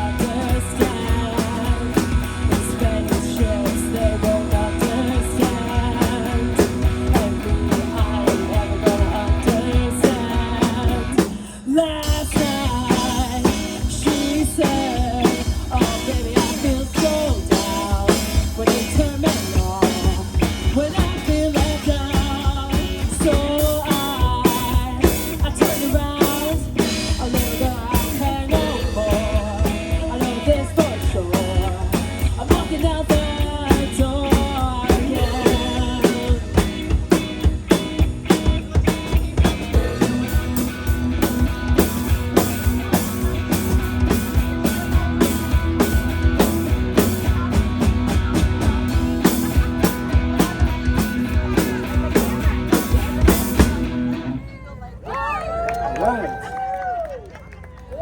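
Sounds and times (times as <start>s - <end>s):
drum kit steady beat: 0.0s - 54.2s
rock band playing live: 0.0s - 54.5s.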